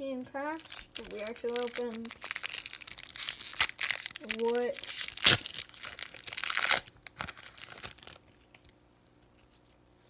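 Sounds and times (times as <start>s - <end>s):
foil crinkling and rustling: 0.4s - 8.7s
foil wrapper ripping: 0.5s - 8.6s.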